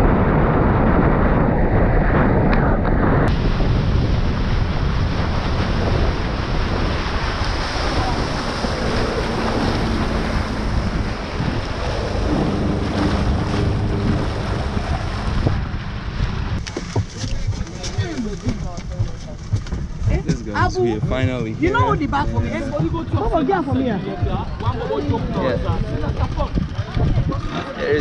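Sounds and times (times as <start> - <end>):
water rushing along hull: 0.0 - 28.0
wind buffeting microphone: 0.0 - 28.0.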